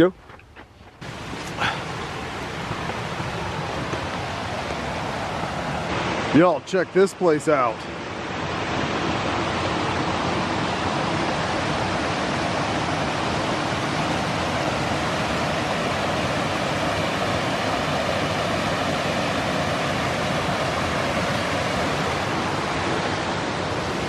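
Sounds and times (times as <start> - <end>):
waterfall rushing: 1.0 - 24.0.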